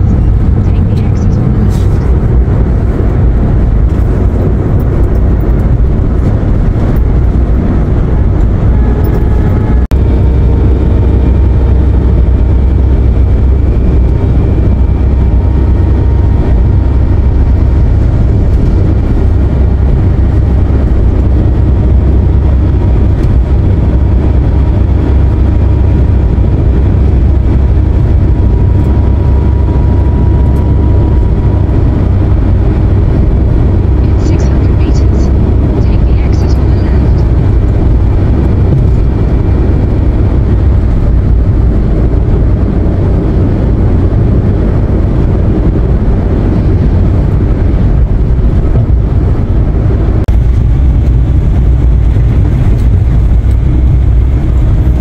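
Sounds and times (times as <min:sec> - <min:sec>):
van engine and tyre rumble: 0:00.0 - 0:55.0.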